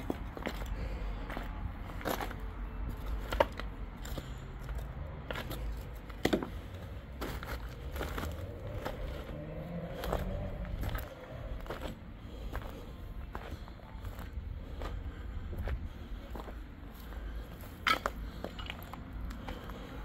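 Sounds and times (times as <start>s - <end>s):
footsteps crunching over debris: 0.0s - 20.0s.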